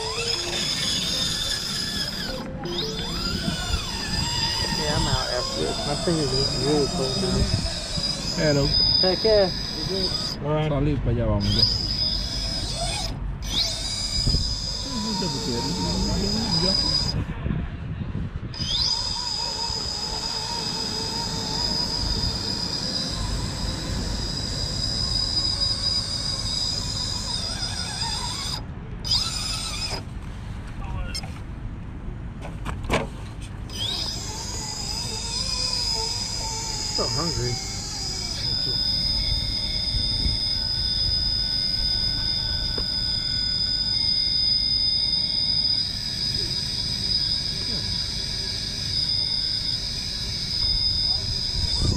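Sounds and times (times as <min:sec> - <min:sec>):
electric motor whining: 0:00.0 - 0:17.3, 0:18.5 - 0:30.1, 0:33.7 - 0:51.9.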